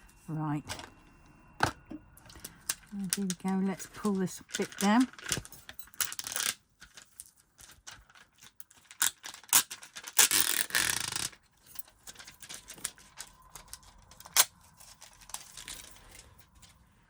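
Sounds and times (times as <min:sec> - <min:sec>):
plastic sheet crinkling: 0:02.2 - 0:16.9.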